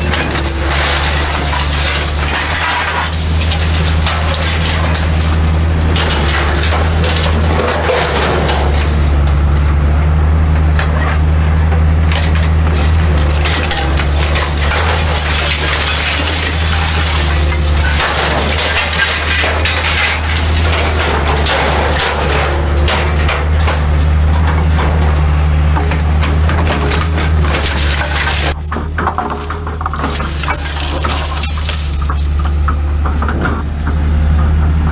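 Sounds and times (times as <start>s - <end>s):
scrap metal clanking and scraping: 0.0s - 34.7s
excavator diesel engine running: 0.0s - 34.9s.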